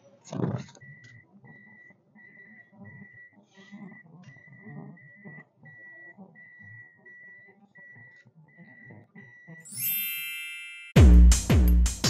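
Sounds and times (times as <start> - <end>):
high electronic beeps: 0.8 - 10.6.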